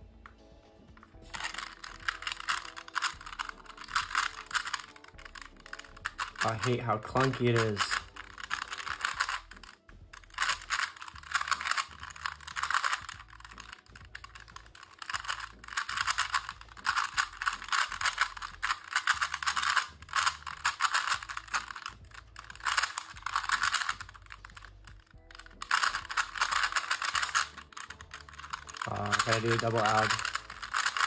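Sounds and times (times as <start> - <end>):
puzzle cube clicking plastic turns: 1.0 - 31.0.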